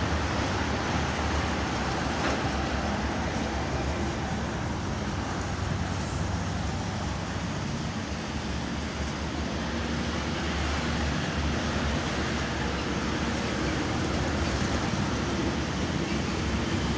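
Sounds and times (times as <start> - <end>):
passing vehicles hissing: 0.0 - 16.9
road traffic rumble: 0.0 - 16.9.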